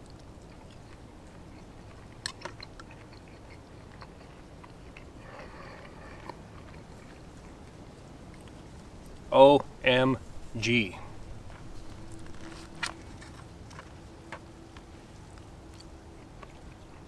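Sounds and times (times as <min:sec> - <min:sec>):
person chewing quietly: 0:00.0 - 0:17.0.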